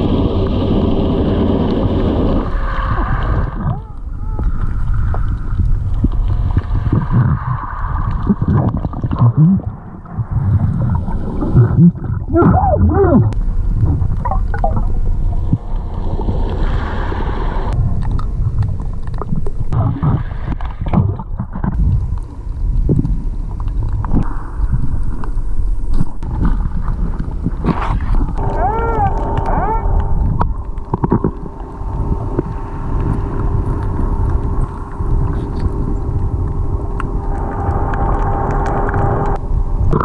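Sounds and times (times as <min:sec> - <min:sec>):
low rumble of surging water: 0:00.0 - 0:40.0
underwater gurgling and bubbling: 0:00.0 - 0:40.0.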